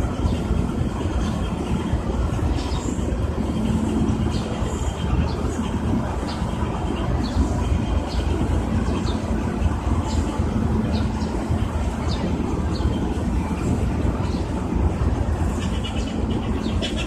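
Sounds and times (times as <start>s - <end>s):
ship engines rumbling: 0.0s - 17.0s.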